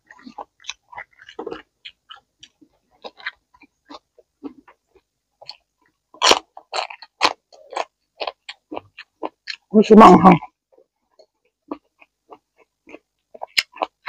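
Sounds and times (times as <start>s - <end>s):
wet chewing: 0.0s - 9.8s, 10.4s - 14.0s.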